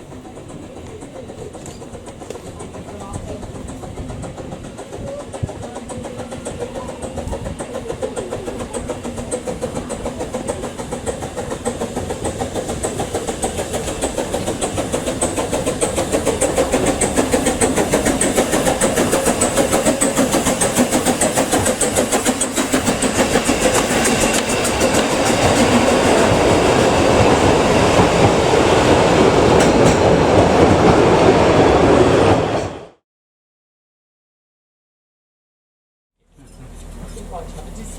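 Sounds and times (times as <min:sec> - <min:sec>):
train clattering on tracks: 0:00.0 - 0:33.0, 0:36.4 - 0:37.9.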